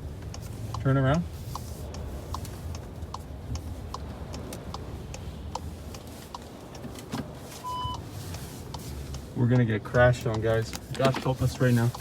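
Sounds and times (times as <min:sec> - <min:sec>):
car interior rumble: 0:00.0 - 0:12.0
car indicator clicking: 0:00.1 - 0:12.0.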